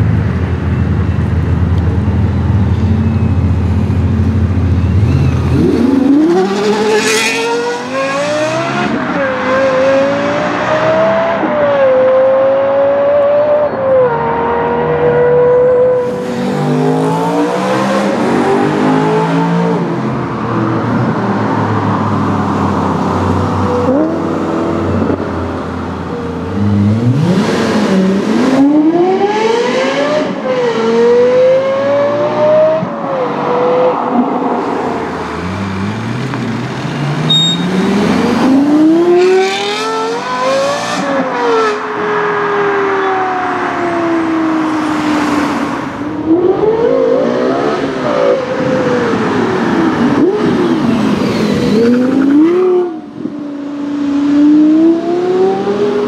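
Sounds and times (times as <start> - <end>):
sports car engine at full throttle: 0.0 - 56.0.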